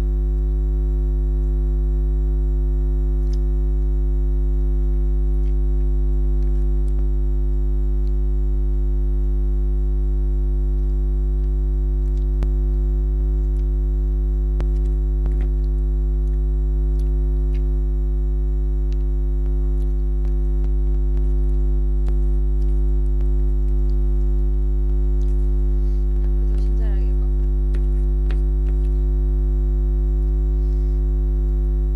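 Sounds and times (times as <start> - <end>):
loud electrical hum: 0.0 - 31.9.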